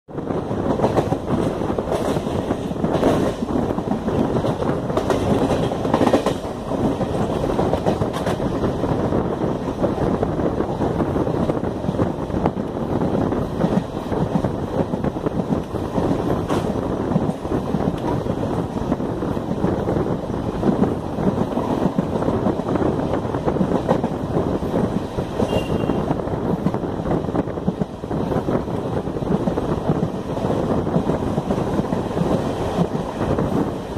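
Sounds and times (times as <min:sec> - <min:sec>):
rail joints clacking: 0:00.1 - 0:33.9
train wheels rumbling on rails: 0:00.1 - 0:33.9
wind buffeting microphone: 0:00.1 - 0:33.9.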